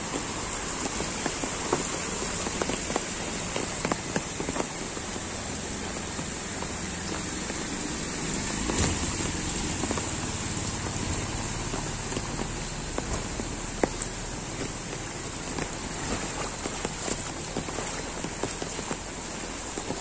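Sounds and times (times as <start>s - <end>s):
close raindrop hits: 0.0s - 20.0s
heavy rain on flooded street: 0.0s - 20.0s
scooter wheel splashing through water: 0.0s - 20.0s.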